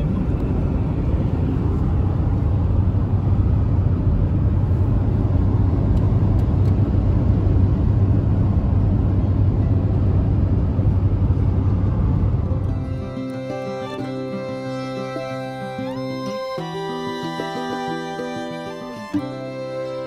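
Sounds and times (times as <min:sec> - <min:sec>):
road noise inside car cab: 0:00.0 - 0:20.0.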